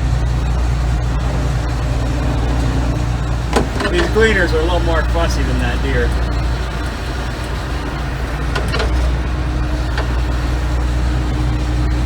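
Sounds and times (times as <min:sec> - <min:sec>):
combine engine drone: 0:00.0 - 0:12.0
steady whine: 0:00.0 - 0:12.0.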